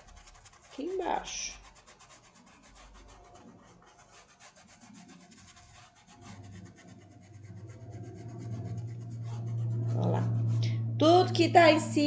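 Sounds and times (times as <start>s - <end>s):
paintbrush rubbing on fabric: 0.0s - 11.0s
low steady hum: 0.0s - 12.0s.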